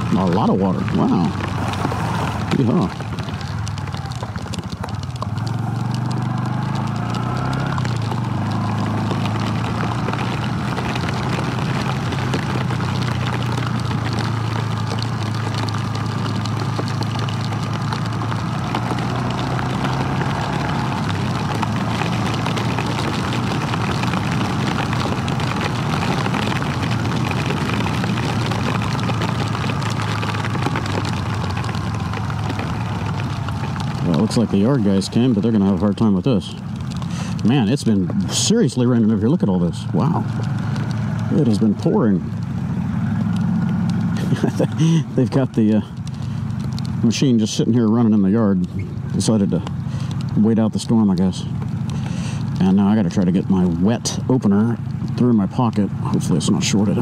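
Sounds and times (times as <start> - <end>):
motorcycle engine running: 0.0 - 57.0
wind and rain rushing: 0.0 - 57.0.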